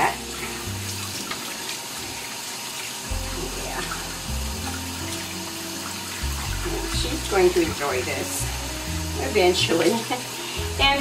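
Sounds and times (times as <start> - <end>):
faucet running: 0.0 - 11.0
water splashing on dog's coat: 0.0 - 11.0.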